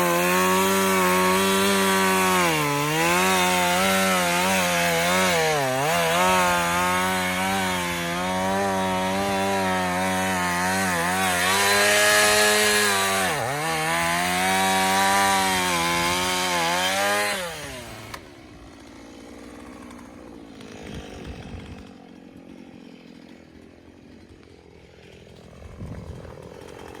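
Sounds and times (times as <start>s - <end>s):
two-stroke chainsaw running: 0.0s - 27.0s.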